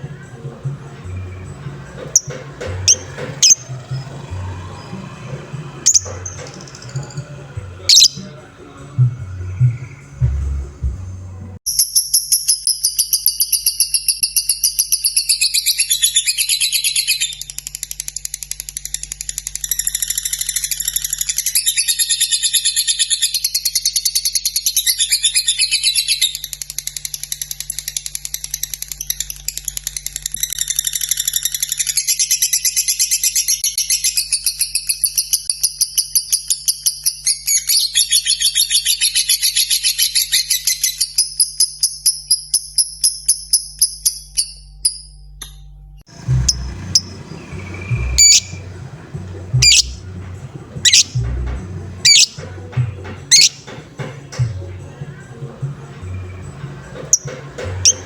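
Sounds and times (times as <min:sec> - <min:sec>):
lovebird chattering and trilling: 0:00.2 - 0:08.4, 0:11.7 - 0:45.0, 0:46.1 - 0:53.8, 0:56.0 - 0:58.0.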